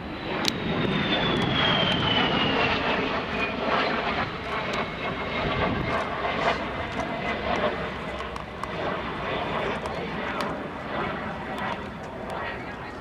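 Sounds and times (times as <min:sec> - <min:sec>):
high falling jet whine: 0:00.0 - 0:13.0
jet engine passing by: 0:00.0 - 0:13.0.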